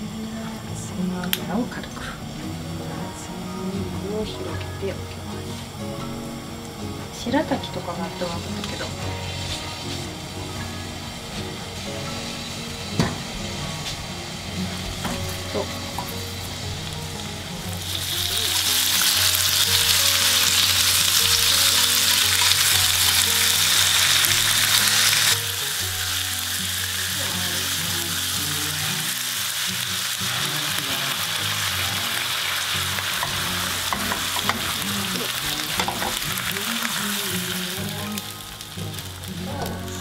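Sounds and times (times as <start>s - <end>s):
meat sizzling in a frying pan: 0.0s - 40.0s.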